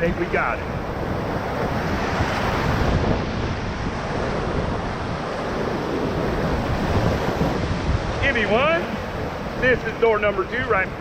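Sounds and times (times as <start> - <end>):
whitewater rapids rushing: 0.0 - 11.0
wind buffeting microphone: 0.0 - 11.0.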